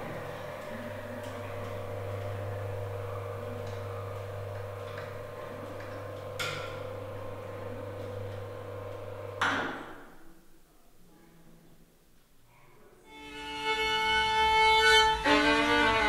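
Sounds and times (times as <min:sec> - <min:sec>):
steady electric hum: 0:00.0 - 0:16.0.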